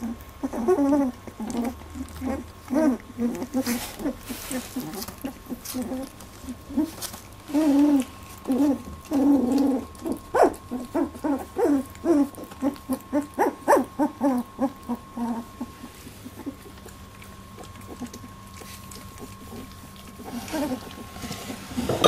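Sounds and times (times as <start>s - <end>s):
puppies whimpering and squealing: 0.0s - 22.0s.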